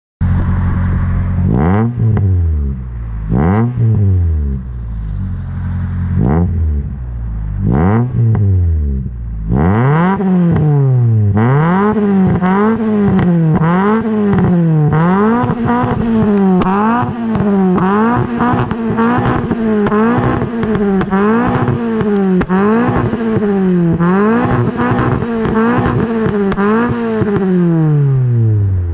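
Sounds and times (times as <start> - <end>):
car engine idling and revving: 0.2 - 28.9.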